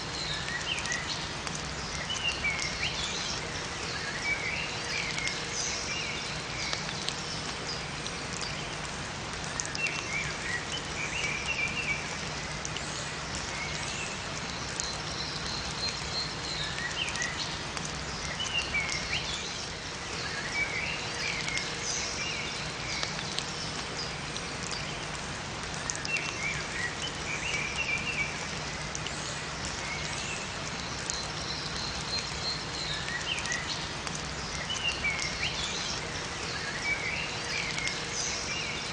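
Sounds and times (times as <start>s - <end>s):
songbirds chirping: 0.0s - 38.9s
steady rain falling: 0.0s - 38.9s.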